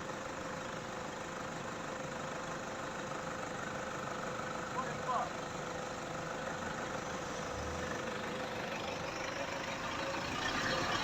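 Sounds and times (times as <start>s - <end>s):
faint steady whine: 0.0s - 11.0s
vehicle engine running: 0.0s - 11.0s.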